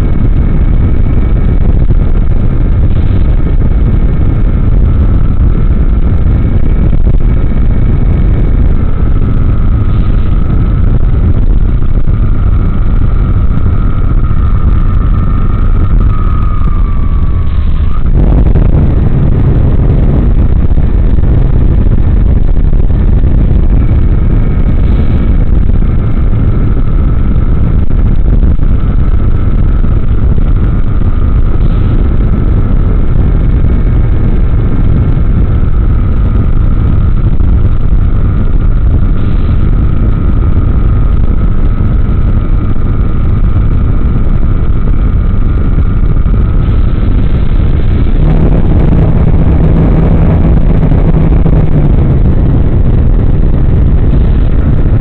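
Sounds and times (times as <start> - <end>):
heavy wind rush on microphone: 0.0 - 55.0
motor and propeller whine: 0.0 - 55.0.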